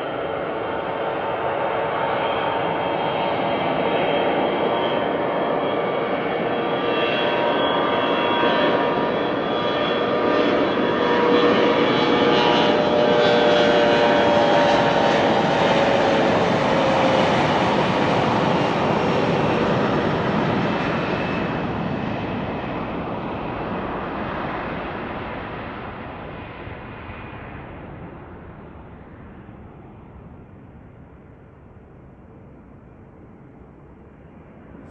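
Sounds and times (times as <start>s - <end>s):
jet roar with whine: 0.0s - 34.9s.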